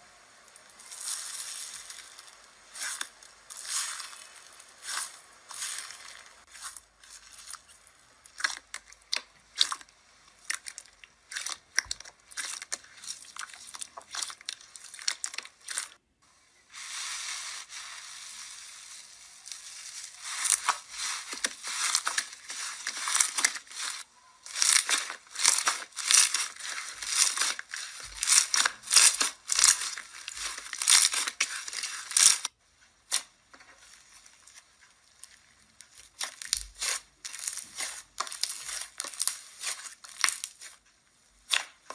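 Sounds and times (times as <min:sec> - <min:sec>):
hands squeezing slime: 0:00.8 - 0:16.0, 0:16.8 - 0:32.5, 0:33.1 - 0:40.8.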